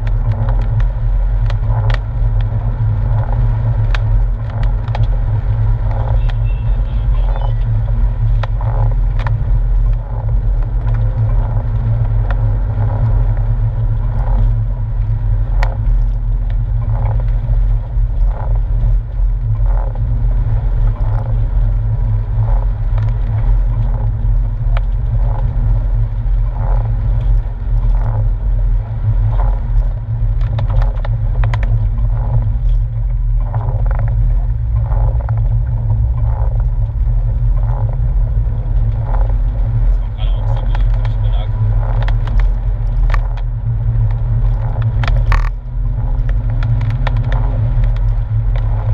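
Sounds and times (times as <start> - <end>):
light ticks: 0.0 - 5.2, 7.6 - 20.1, 22.4 - 28.3, 29.2 - 48.9
car engine rumble from inside: 0.0 - 48.9.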